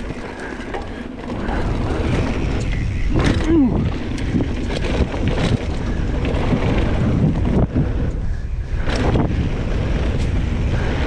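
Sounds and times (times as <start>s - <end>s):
bike rolling on dirt trail: 0.0s - 11.0s
wind buffeting microphone: 0.0s - 11.0s.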